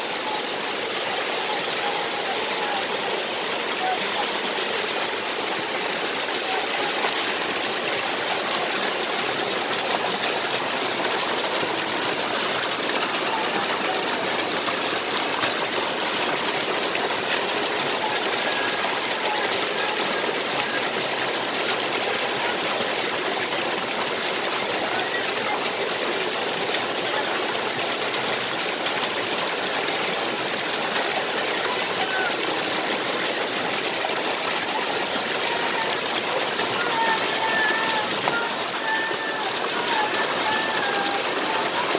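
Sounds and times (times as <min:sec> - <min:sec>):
stream water splashing: 0:00.0 - 0:41.9.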